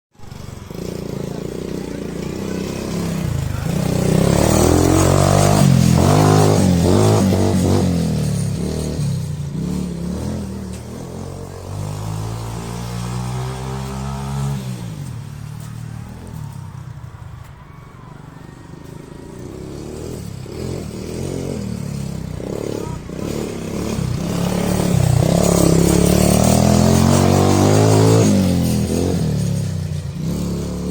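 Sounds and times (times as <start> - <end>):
quad bike engine accelerating: 0.2 - 30.9.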